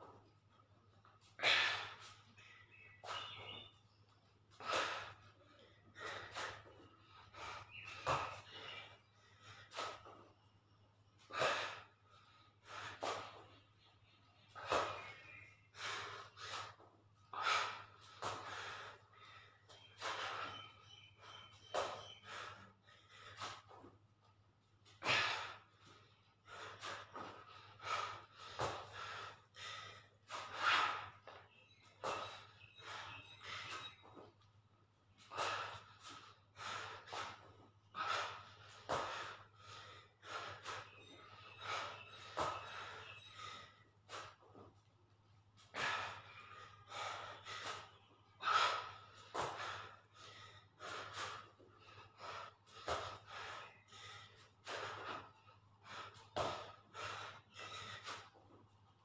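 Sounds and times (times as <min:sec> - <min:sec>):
man breathing hard: 0:01.1 - 0:03.5, 0:04.4 - 0:34.4, 0:35.1 - 0:44.9, 0:45.6 - 0:59.0.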